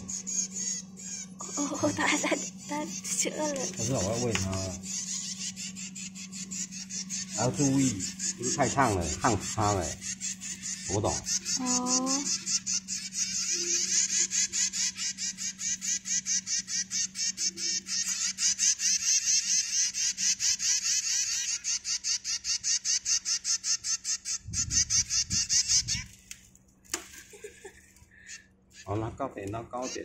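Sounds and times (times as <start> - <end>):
nestling bird chirping: 0.0 - 26.4, 27.3 - 30.0.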